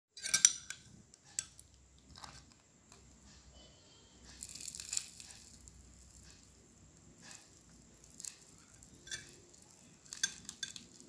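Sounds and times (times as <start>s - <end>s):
crisp batter crackling: 0.3s - 11.0s.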